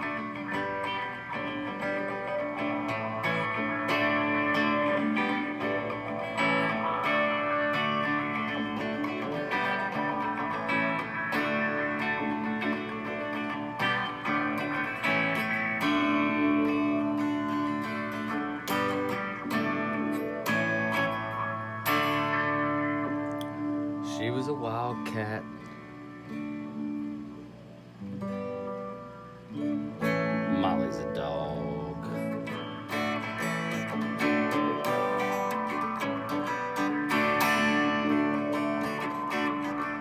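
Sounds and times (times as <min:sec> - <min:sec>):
electric guitar through amplifier: 0:00.0 - 0:40.0.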